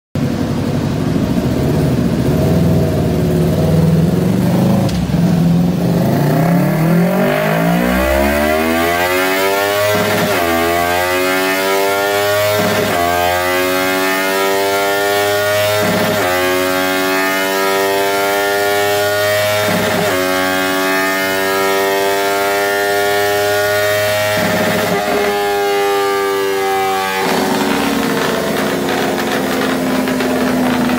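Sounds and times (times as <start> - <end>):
motorcycle engine at full throttle: 0.2 - 30.9.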